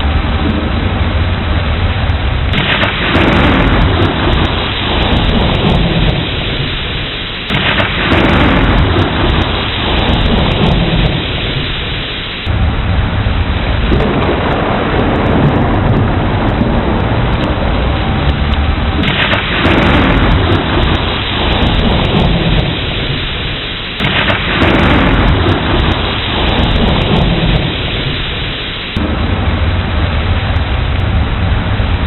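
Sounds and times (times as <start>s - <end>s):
heavy rain: 0.0s - 32.0s
rolling thunder: 0.0s - 32.0s.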